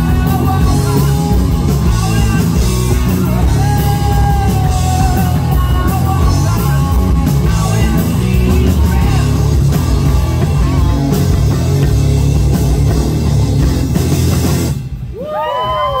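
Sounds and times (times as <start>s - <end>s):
rock band playing loud: 0.0s - 15.5s.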